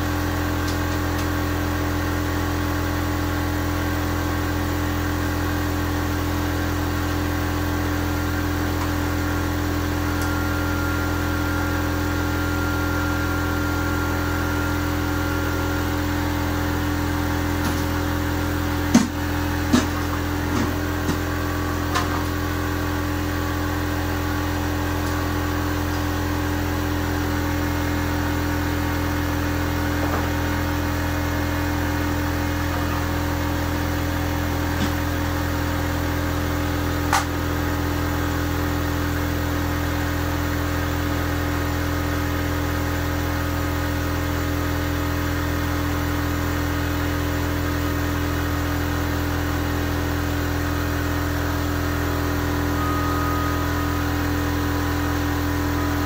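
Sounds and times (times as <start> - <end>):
machine humming: 0.0 - 39.0, 44.8 - 56.0.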